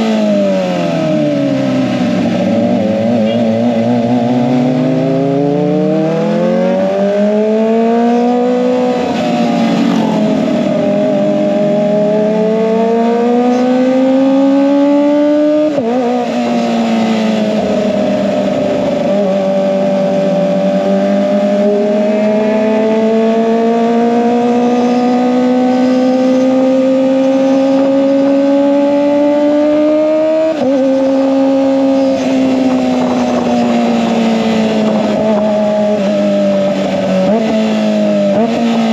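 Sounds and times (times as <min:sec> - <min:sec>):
motorcycle engine under load: 0:00.0 - 0:38.9.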